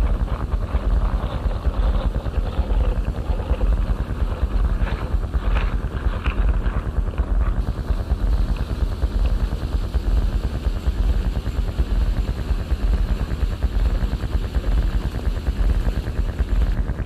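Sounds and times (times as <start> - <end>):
electronic crackling noise: 0.0 - 17.0
heavy low rumble: 0.0 - 17.0.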